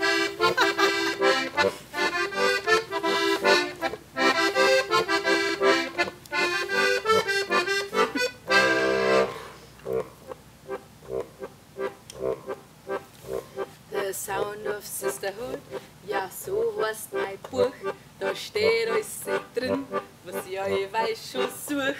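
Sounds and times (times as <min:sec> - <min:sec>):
button accordion playing folk tune: 0:00.0 - 0:09.6, 0:10.7 - 0:21.7.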